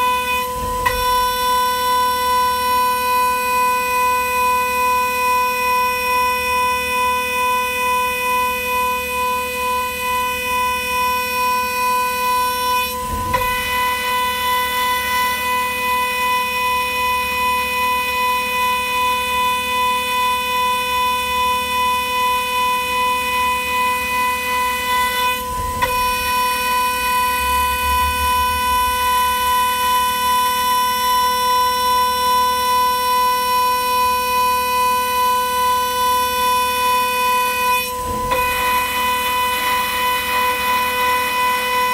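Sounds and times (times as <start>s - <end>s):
milling machine spindle whining: 0.0s - 41.9s.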